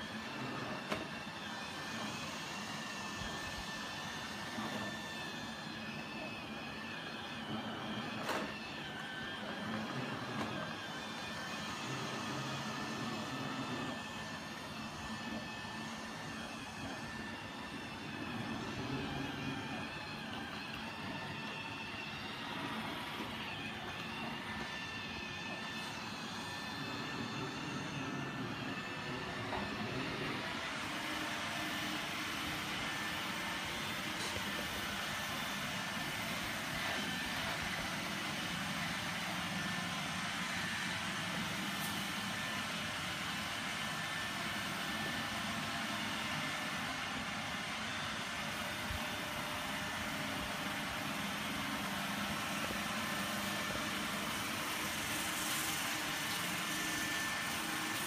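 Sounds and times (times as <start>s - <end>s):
robot vacuum running: 0.0s - 58.0s.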